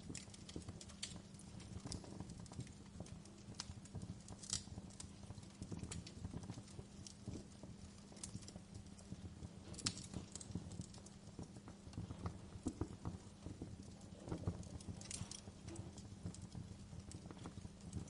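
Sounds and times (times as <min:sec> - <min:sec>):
fire low rumble: 0:00.0 - 0:18.0
wood fire crackling and popping: 0:00.0 - 0:18.0.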